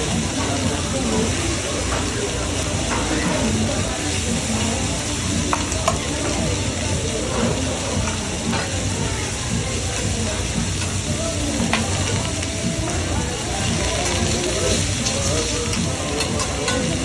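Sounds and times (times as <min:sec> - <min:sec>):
background voices: 0:00.0 - 0:17.0
food frying and sizzling: 0:00.0 - 0:17.0.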